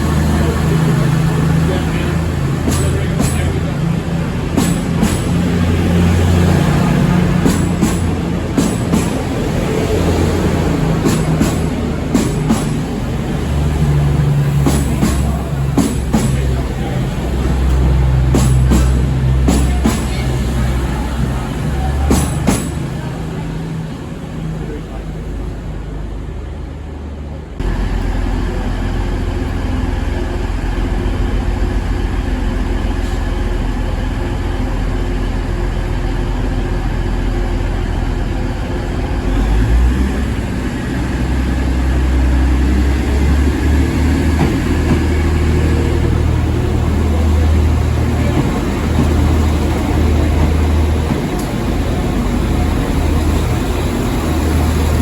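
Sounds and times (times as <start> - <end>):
train engine rumble: 0.0 - 55.0.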